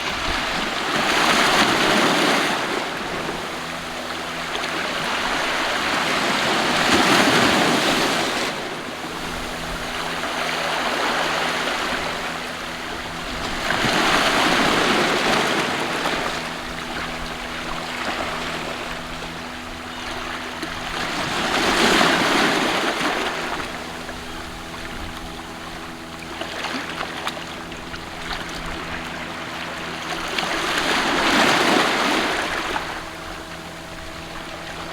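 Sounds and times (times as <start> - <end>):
sea waves washing in: 0.0 - 34.9.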